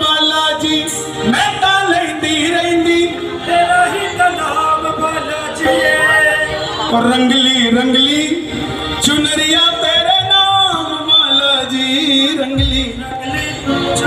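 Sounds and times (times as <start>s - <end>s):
man singing devotional song: 0.0s - 14.0s
instrumental accompaniment: 0.3s - 14.0s.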